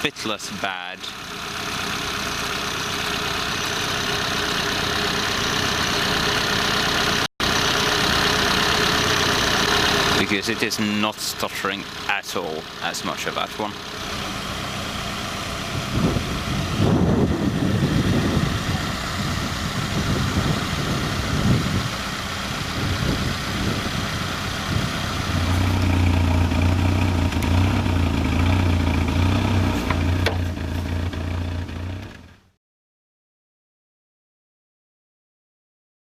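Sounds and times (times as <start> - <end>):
car engine idling unevenly: 0.0 - 32.5.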